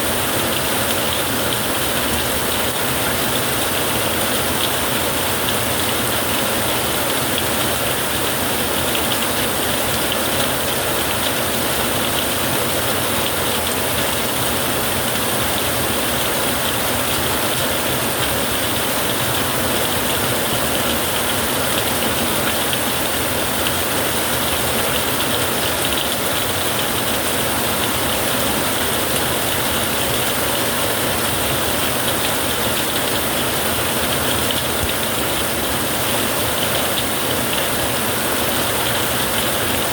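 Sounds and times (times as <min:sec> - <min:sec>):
rain drumming on a tin roof: 0:00.0 - 0:39.9.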